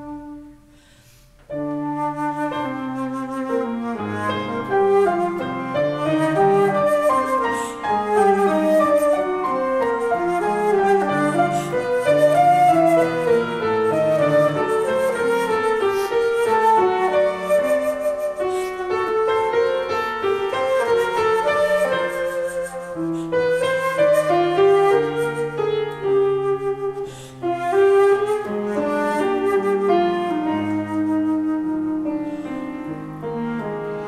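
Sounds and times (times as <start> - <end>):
flute melody: 0.0 - 34.0
piano accompaniment: 0.0 - 34.0.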